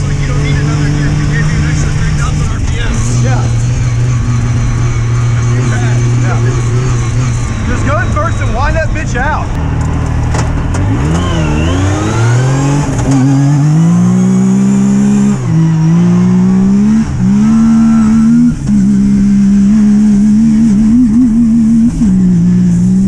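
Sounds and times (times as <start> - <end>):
engine accelerating and shifting gears: 0.0 - 23.0.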